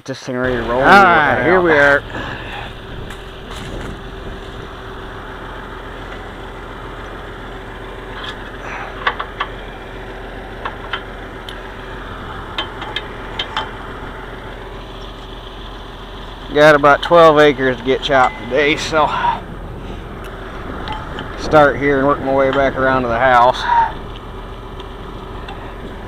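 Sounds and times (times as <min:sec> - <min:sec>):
tractor engine idling: 0:00.4 - 0:26.0.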